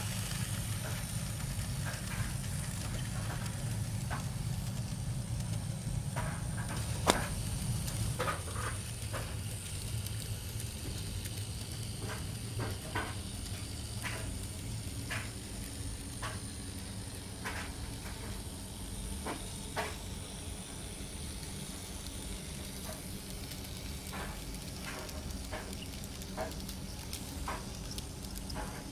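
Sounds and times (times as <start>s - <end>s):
model train motor hum: 0.0s - 28.9s
wheels clicking on rails: 0.0s - 28.9s.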